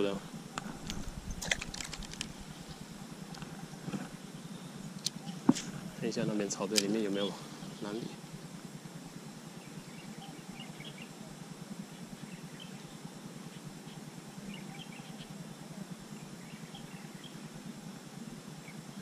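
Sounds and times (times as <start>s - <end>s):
small birds chirping: 0.0s - 17.6s
outdoor background hiss: 0.0s - 19.0s.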